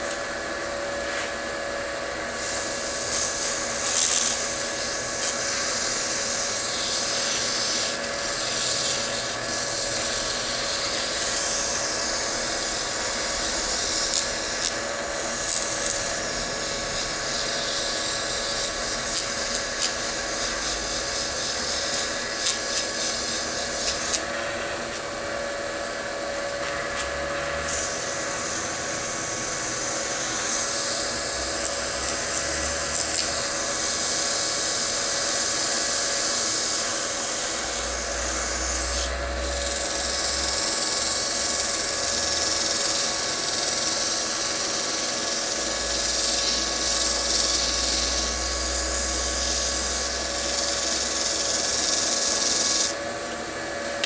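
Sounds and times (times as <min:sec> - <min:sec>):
wood lathe motor whine: 0:00.0 - 0:54.0
tool rubbing on spinning wood: 0:02.2 - 0:25.2, 0:25.9 - 0:53.0.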